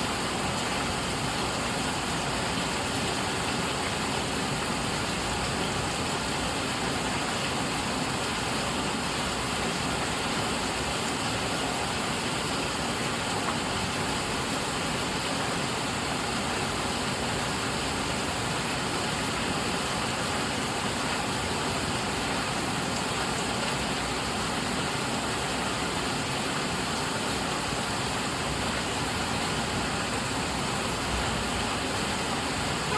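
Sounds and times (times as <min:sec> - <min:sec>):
heavy rain on leaves: 0:00.0 - 0:32.9.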